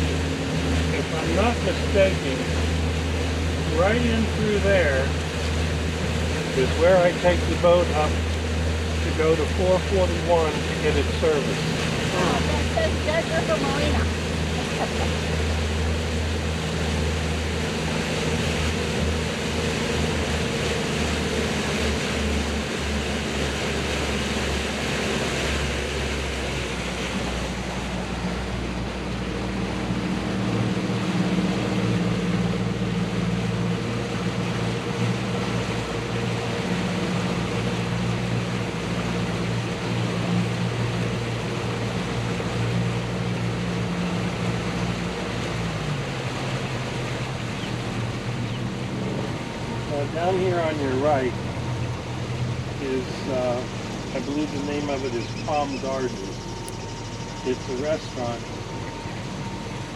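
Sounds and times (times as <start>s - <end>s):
motorboat engine running: 0.0s - 59.9s
water rushing: 0.0s - 59.9s
wind: 0.0s - 59.9s.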